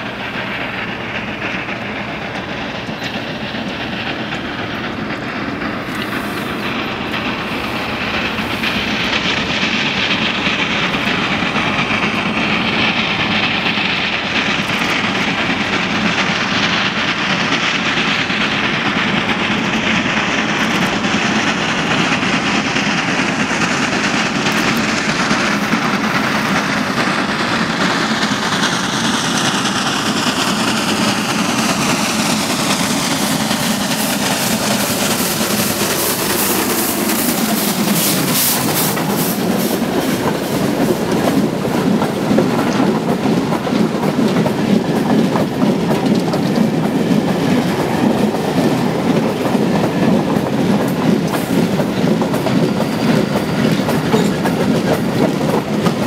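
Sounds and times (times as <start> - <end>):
steam locomotive high whine: 0.0 - 56.0
train wheels clickety-clack: 0.0 - 56.0.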